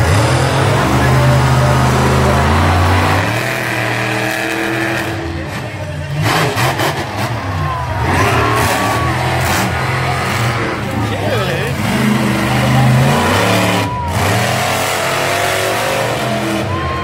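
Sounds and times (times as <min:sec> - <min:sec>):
monster truck engines revving: 0:00.0 - 0:17.0.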